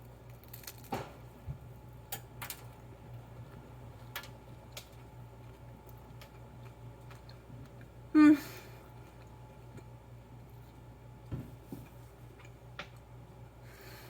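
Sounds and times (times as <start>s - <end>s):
person chewing crunchy pastry: 0.0s - 13.2s
steady low hum: 0.0s - 14.0s.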